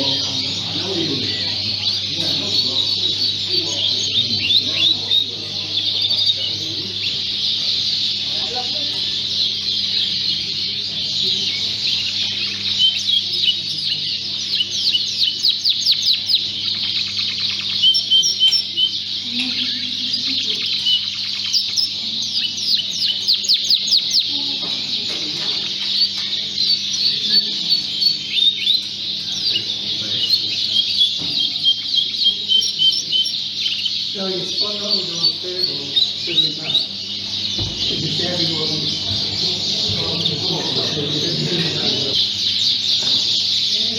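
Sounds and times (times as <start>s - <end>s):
canaries singing chorus: 0.0s - 43.9s.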